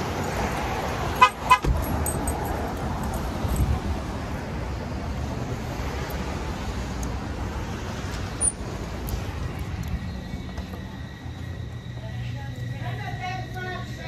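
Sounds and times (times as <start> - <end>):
cars passing on busy street: 0.0 - 14.0.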